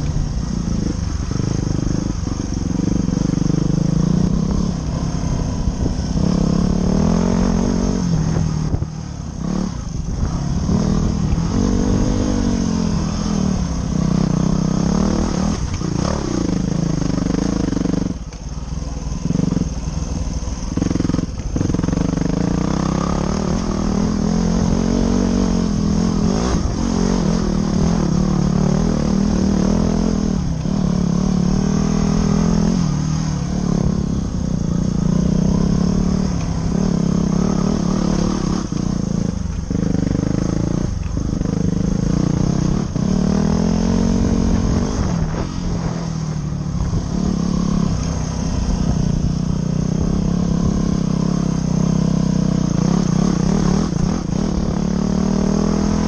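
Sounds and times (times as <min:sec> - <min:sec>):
dirt bike engine revving: 0:00.0 - 0:18.2, 0:19.0 - 0:56.0.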